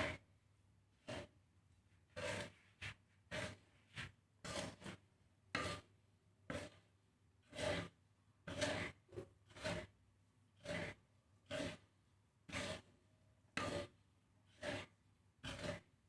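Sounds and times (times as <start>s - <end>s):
seeds scraped round a pan: 0.0s - 0.3s, 0.9s - 16.0s.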